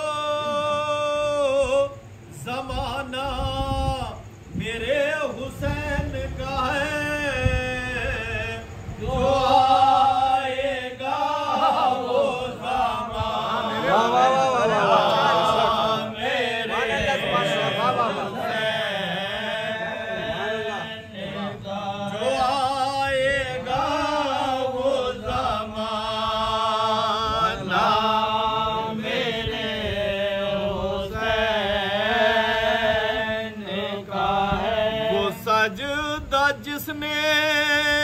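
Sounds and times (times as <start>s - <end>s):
men chanting a lament: 0.0s - 38.0s.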